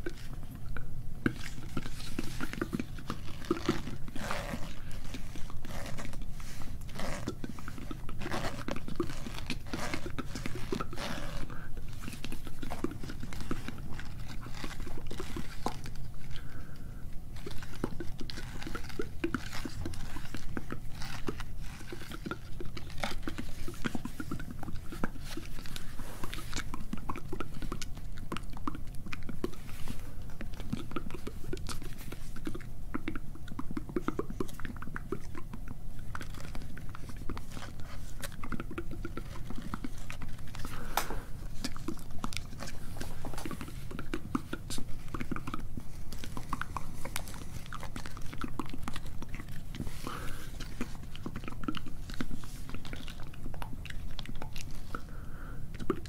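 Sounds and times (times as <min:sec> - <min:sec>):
wet mouth sounds: 0:00.0 - 0:56.0.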